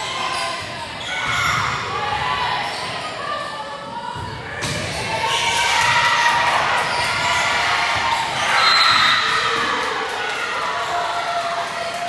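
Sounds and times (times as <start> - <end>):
crowd cheering and shouting: 0.0 - 12.0.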